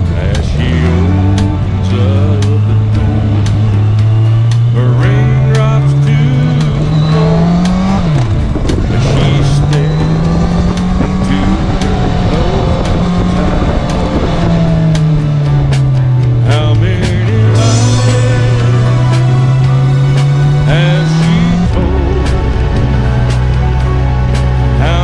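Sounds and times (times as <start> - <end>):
engine revving: 0.0 - 25.0
music with a beat: 0.0 - 25.0.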